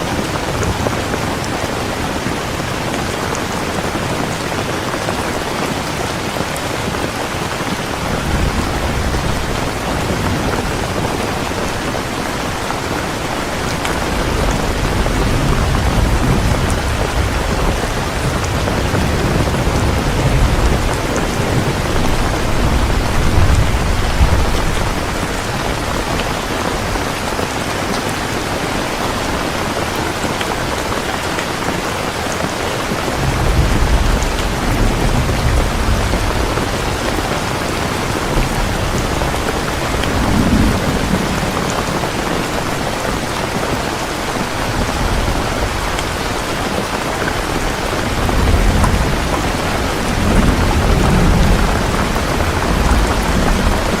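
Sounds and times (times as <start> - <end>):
thunder rumbling: 0.0 - 31.3, 32.0 - 54.0
steady rain hiss: 0.0 - 54.0.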